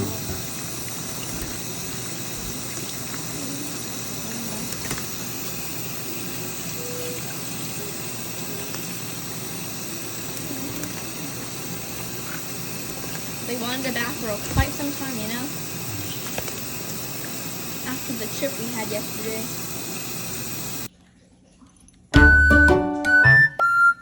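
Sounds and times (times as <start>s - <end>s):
water running from a tap: 0.0s - 20.9s.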